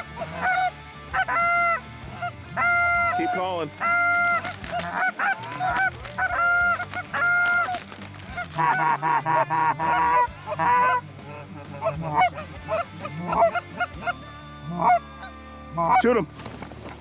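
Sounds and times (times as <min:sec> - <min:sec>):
goose clucking calls: 0:00.0 - 0:16.2
goose honking: 0:00.0 - 0:16.3.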